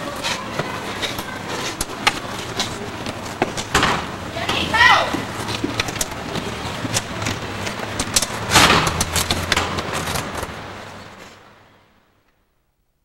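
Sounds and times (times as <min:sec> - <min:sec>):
steady rumble and hiss: 0:00.0 - 0:13.0
sharp clicks and knocks: 0:00.2 - 0:11.3.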